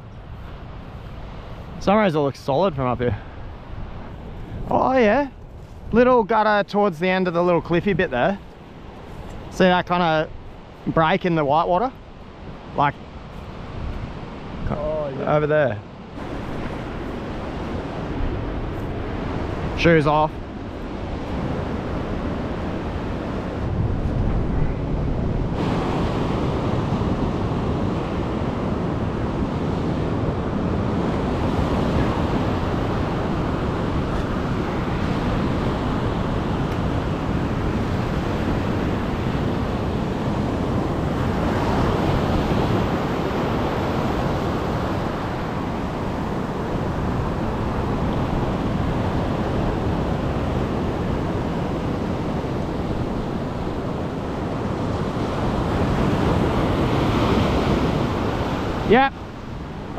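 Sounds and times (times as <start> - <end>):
ocean surf breaking: 0.0 - 59.9
wind buffeting microphone: 0.0 - 59.9.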